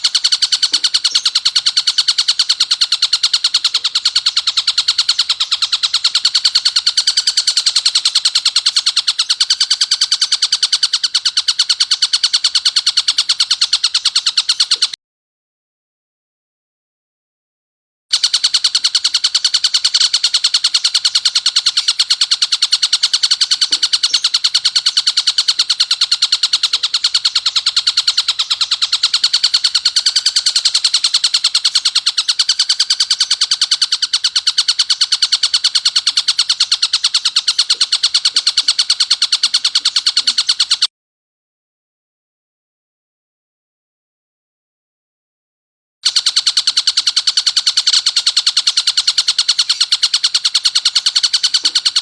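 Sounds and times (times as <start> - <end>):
kingfisher rattling call: 0.0 - 15.0, 18.1 - 40.9, 46.0 - 52.0.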